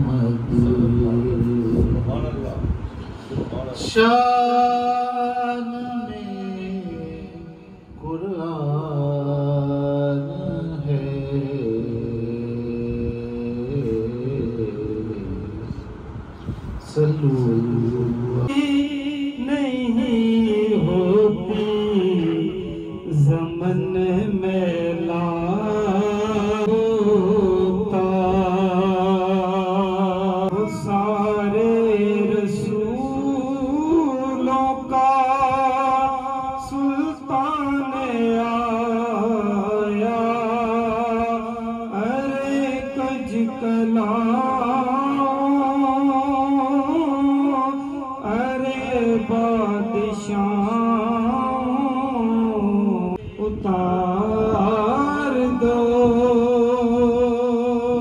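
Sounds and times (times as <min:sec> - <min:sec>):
man singing unaccompanied: 0:00.0 - 0:02.7, 0:03.7 - 0:15.8, 0:16.8 - 0:58.0.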